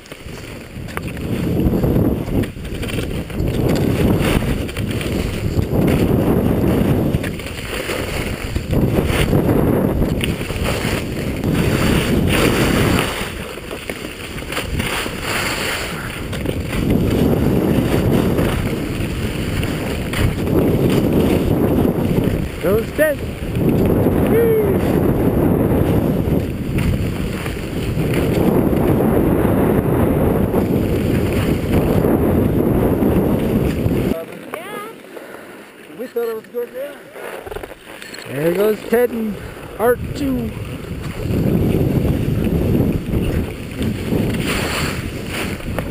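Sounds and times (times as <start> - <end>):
wind on microphone: 0.0 - 34.9, 37.2 - 45.9
skis scraping over snow: 0.0 - 45.9.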